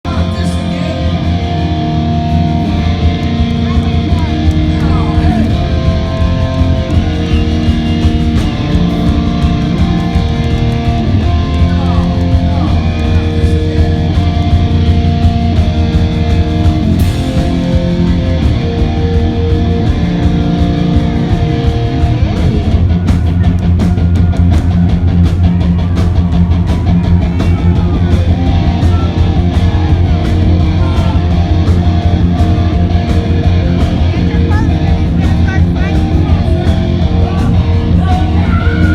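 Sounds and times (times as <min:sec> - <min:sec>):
distorted electric guitar: 0:00.0 - 0:38.9
hard rock band playing live: 0:00.0 - 0:38.9
drums and cymbals hitting: 0:01.4 - 0:38.9.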